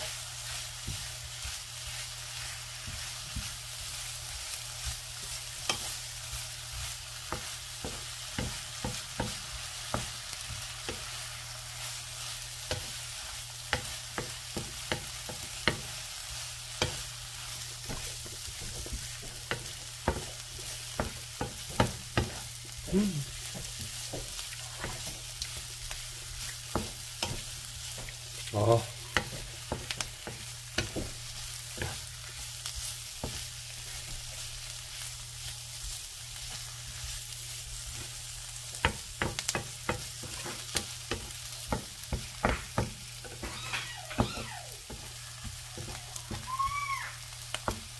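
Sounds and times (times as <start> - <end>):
wooden spatula scraping a pan: 0.0 - 46.5
vegetables sizzling in a frying pan: 0.0 - 47.9.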